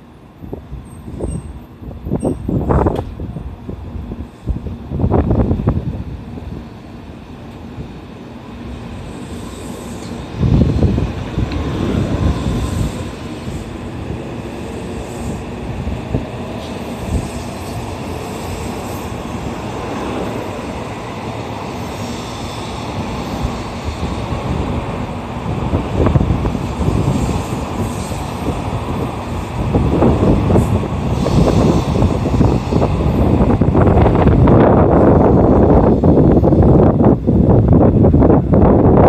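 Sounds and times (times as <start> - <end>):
steel wheels rumbling on rail: 0.0 - 39.0.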